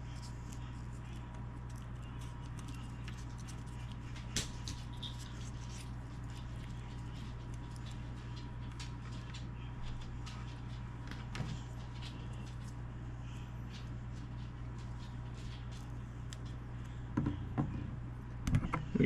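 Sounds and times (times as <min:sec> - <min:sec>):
tape and wires crackling: 0:00.0 - 0:17.2
steady low hum: 0:00.0 - 0:19.0.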